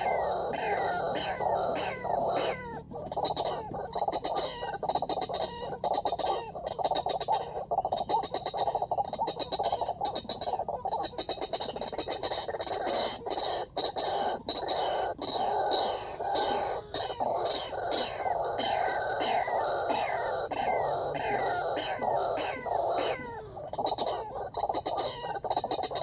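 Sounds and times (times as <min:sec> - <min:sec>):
waterhen calling: 0:00.0 - 0:04.8, 0:09.2 - 0:26.0.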